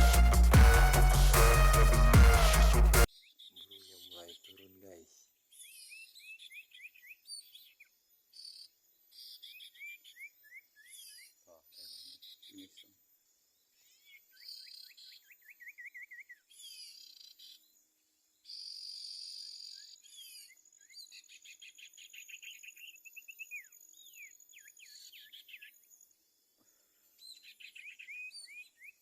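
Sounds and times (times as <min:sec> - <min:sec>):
small birds chirping: 0:03.0 - 0:29.0.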